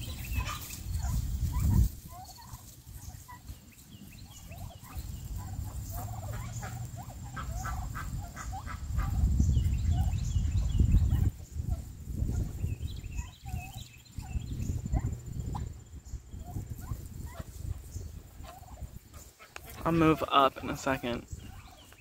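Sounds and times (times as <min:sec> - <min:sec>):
turkeys chirping calls: 0:00.0 - 0:22.0.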